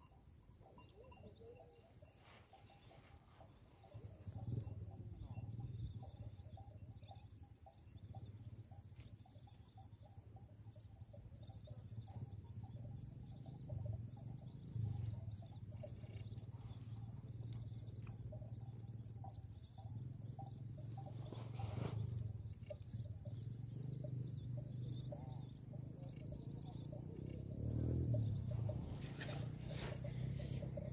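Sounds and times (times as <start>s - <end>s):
small birds chirping: 0.0s - 30.9s.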